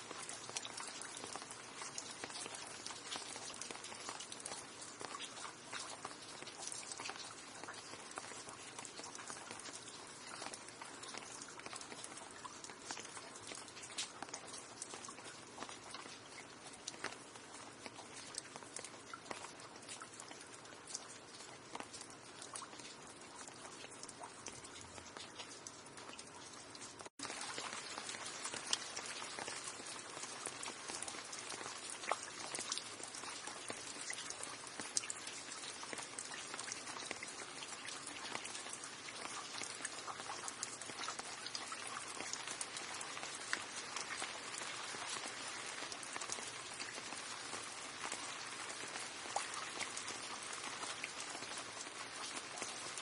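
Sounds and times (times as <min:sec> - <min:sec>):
rain drops ticking: 0:00.0 - 0:53.0.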